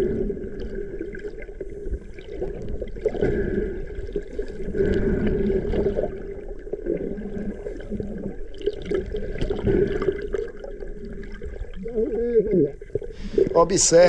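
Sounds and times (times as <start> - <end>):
water sloshing and bubbling: 0.0 - 14.0.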